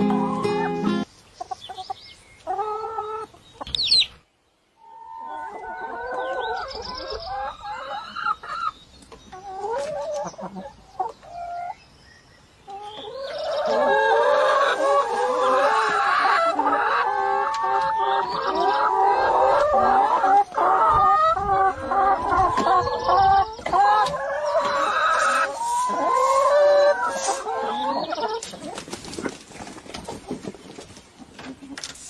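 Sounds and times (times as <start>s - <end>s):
hens clucking: 0.0s - 4.2s, 4.8s - 11.8s, 12.7s - 32.0s.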